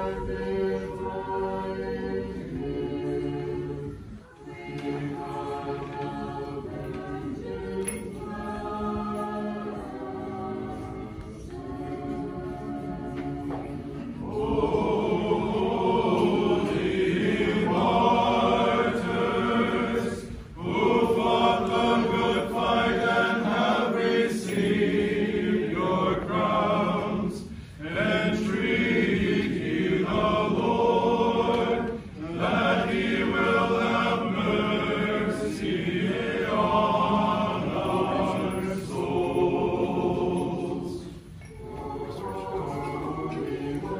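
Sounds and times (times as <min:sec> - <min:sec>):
choir chanting a cappella: 0:00.0 - 0:43.9.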